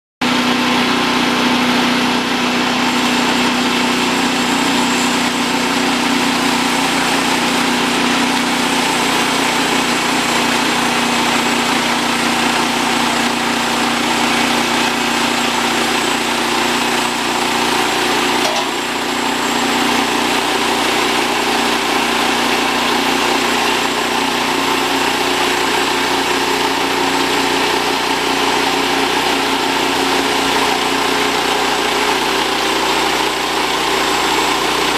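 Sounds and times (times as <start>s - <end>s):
milling machinery running: 0.2s - 34.9s.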